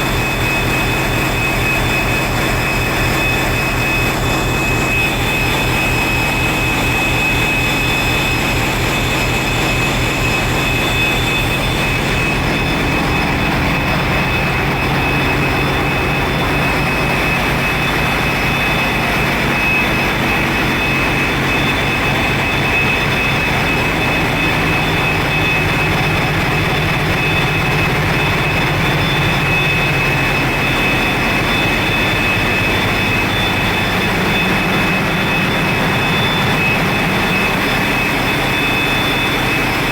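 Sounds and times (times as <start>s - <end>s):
diesel generator engines droning: 0.0s - 39.9s
high-pitched whine: 0.0s - 39.9s.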